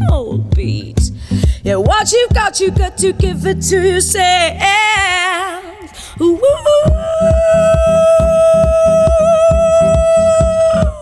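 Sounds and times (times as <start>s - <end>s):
woman singing: 0.0s - 11.0s.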